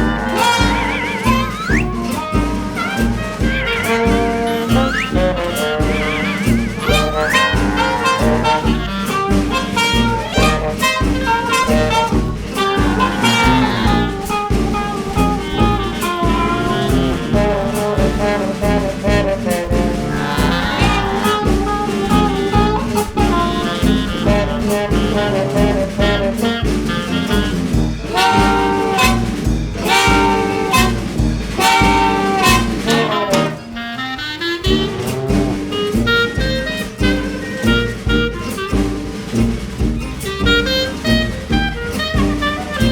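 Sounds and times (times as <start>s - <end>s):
upbeat jazzy music: 0.0s - 42.9s.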